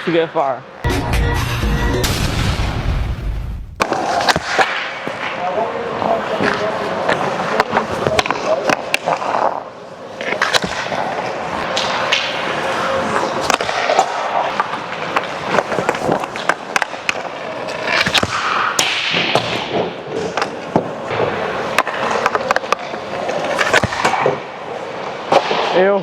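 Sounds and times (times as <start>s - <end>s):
hockey stick striking puck: 3.8s - 24.5s, 25.1s - 25.8s
skate blades scraping ice: 3.8s - 25.8s.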